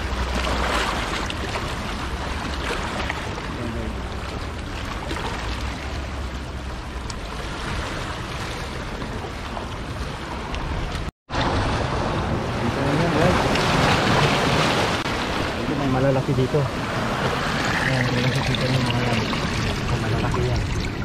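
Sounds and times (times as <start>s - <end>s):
waves splashing over rocks: 0.0s - 21.0s.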